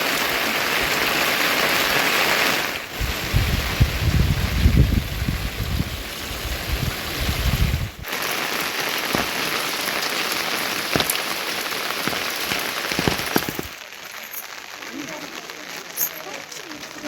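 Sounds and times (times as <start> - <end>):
heavy rain hissing: 0.0 - 17.0
raindrops tapping: 0.0 - 17.0.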